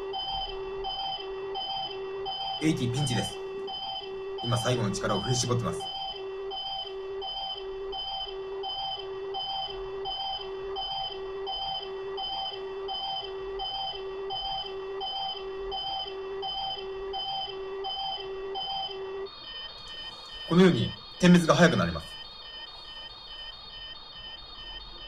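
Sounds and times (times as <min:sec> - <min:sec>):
toy warning beeps: 0:00.2 - 0:25.0.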